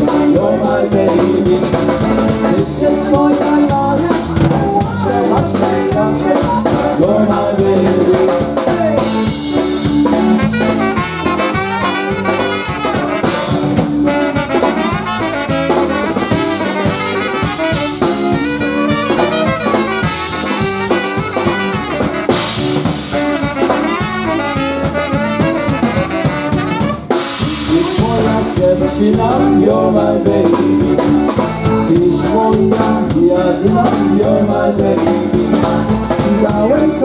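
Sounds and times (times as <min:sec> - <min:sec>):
saxophone: 0:00.0 - 0:07.1, 0:08.0 - 0:37.0
drum kit beat: 0:00.0 - 0:37.0
trumpet: 0:00.0 - 0:37.0.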